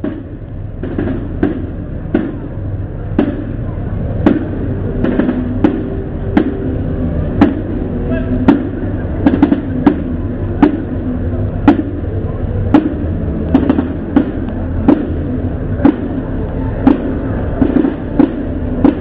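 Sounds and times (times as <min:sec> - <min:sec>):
marching drums beating: 0:00.0 - 0:19.0
people chattering: 0:00.0 - 0:19.0.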